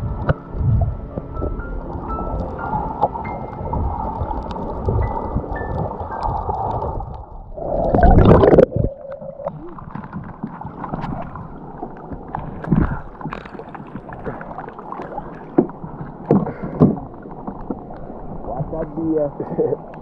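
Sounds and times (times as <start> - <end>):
rush of water: 0.0 - 20.0
water dripping and splashing: 0.0 - 20.0.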